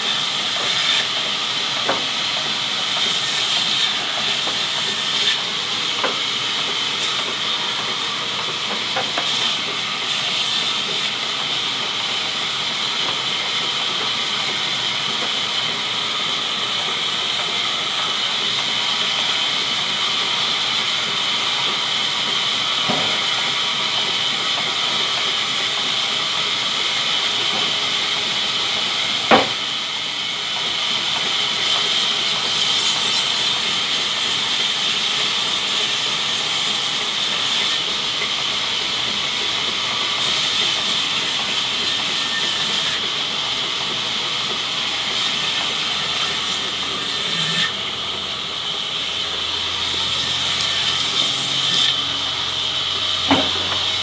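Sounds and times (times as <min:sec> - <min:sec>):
band saw cutting wood: 0:00.0 - 0:54.0.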